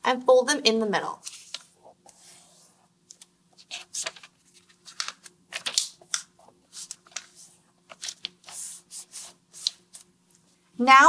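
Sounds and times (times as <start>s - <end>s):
paper rustling: 1.2s - 10.1s.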